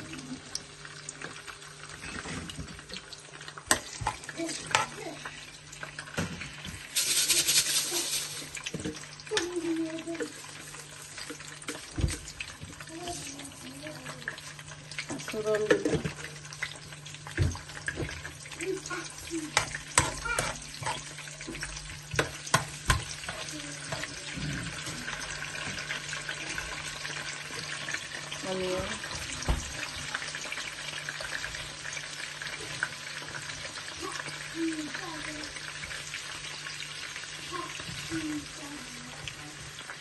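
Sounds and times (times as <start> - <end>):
curry sizzling in a pan: 0.0 - 40.0
kitchen tap running: 0.0 - 40.0.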